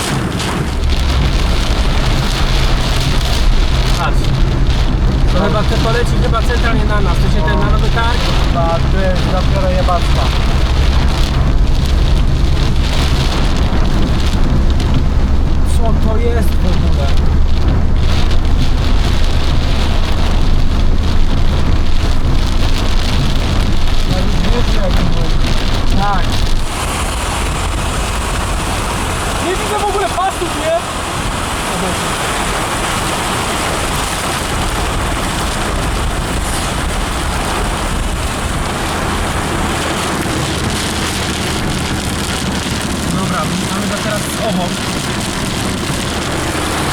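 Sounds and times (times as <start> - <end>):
car rumbling on road: 0.0 - 46.9
heavy rain on car roof: 0.0 - 46.9.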